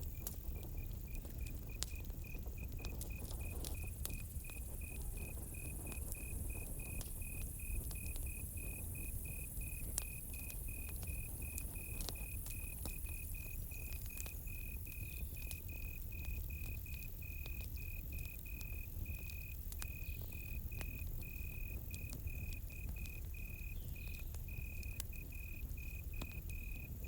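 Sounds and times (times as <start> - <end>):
campfire crackling: 0.0 - 27.0
crickets chirping: 0.0 - 27.0.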